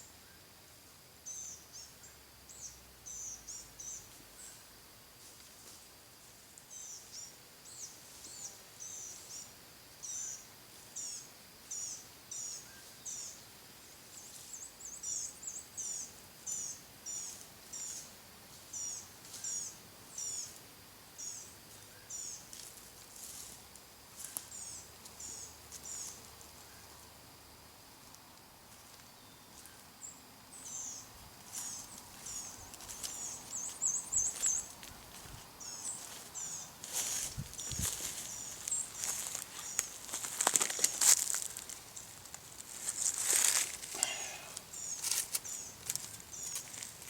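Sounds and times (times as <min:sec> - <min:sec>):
thin insect hum: 0:00.0 - 0:47.0
songbird singing: 0:01.2 - 0:04.8, 0:06.6 - 0:22.6, 0:24.2 - 0:27.6, 0:28.3 - 0:47.0.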